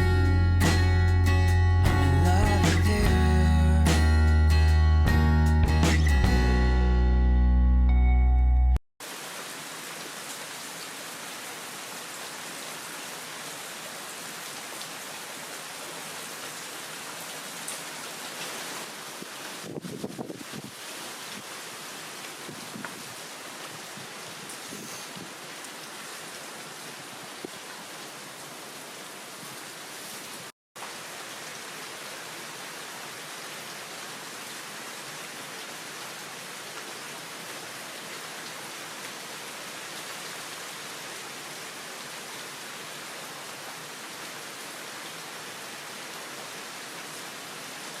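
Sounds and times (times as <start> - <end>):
heavy rain: 9.0 - 48.0.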